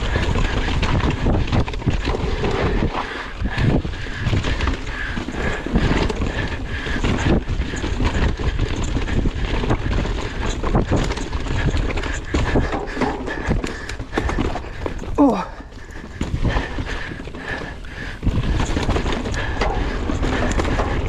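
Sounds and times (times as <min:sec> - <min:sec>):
bike clattering over bumps: 0:00.0 - 0:21.0
wind buffeting microphone: 0:00.0 - 0:21.0.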